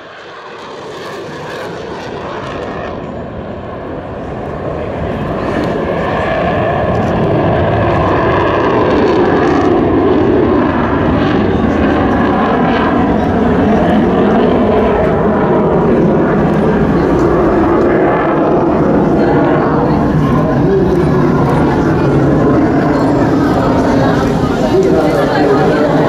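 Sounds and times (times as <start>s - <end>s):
fighter jet engine rushing: 0.0s - 26.0s.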